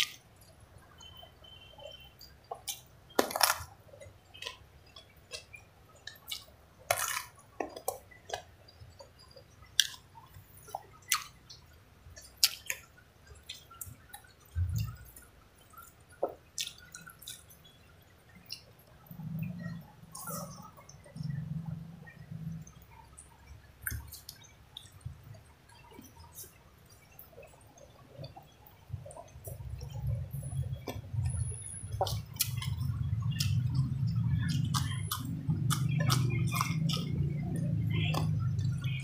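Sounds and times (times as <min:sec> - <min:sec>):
wet chewing: 0:00.0 - 0:39.0
mouth clicks and smacks: 0:01.8 - 0:39.0.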